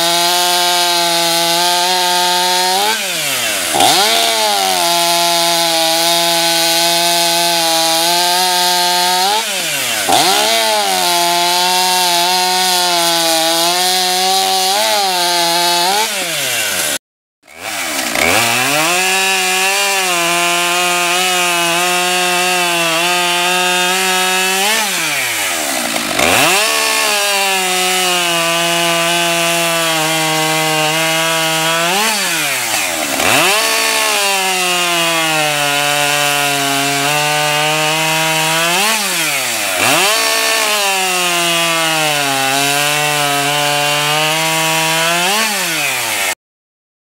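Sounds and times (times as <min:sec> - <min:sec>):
chainsaw cutting log: 0:00.0 - 0:46.4.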